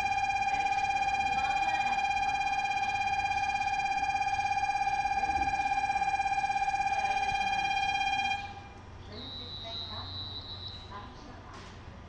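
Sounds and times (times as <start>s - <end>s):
pulsing electronic departure buzzer: 0.0s - 10.9s.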